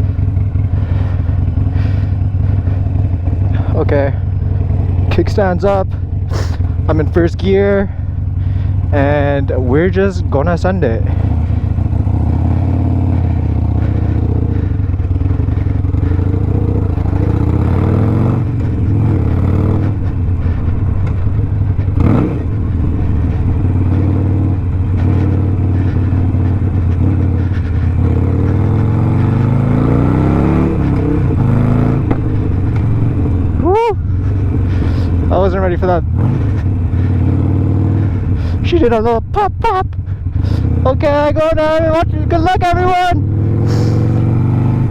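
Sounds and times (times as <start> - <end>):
motorcycle accelerating through gears: 0.0 - 44.9.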